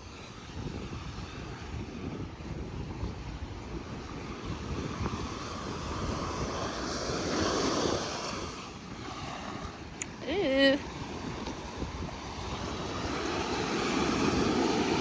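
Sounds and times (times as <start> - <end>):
ocean surf washing ashore: 0.0 - 15.0
wind on microphone: 0.0 - 15.0.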